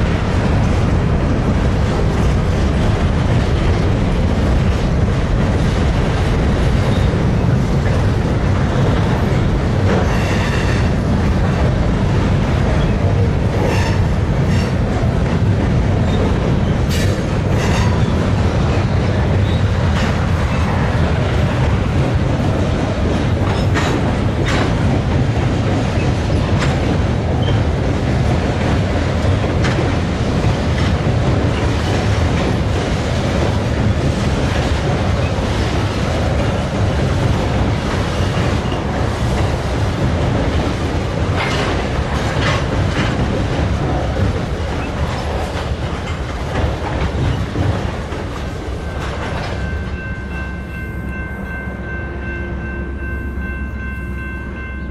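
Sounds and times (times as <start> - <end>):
freight train rumbling: 0.0 - 54.9
wheels clicking over rail joints: 0.1 - 50.2.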